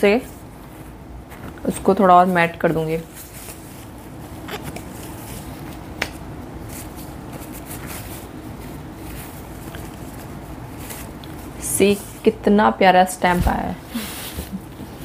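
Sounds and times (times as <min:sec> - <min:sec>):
paper tissue rustling: 0:00.0 - 0:12.4
steady background noise: 0:00.0 - 0:15.0.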